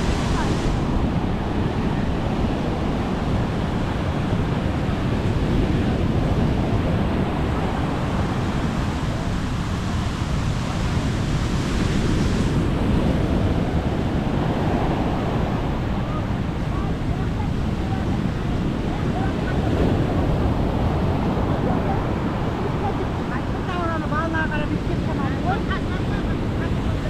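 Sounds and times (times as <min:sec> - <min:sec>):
sea waves breaking on shore: 0:00.0 - 0:27.0
wind rumbling on microphone: 0:00.0 - 0:27.0.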